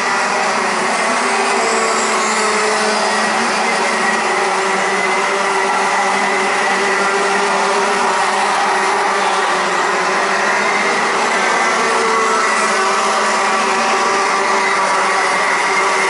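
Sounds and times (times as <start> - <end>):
kart engines whining: 0.0 - 16.0.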